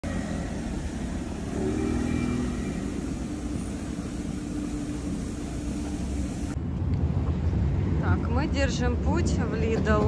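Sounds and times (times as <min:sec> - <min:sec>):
vehicle engine hum: 0:00.0 - 0:08.3
traffic rumble: 0:00.0 - 0:10.0.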